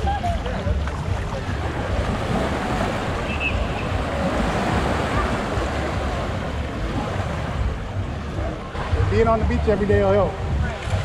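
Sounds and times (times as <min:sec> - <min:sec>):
faint voices: 0:00.0 - 0:11.0
surf washing onto beach: 0:00.8 - 0:10.0
wind buffeting microphone: 0:00.8 - 0:10.8.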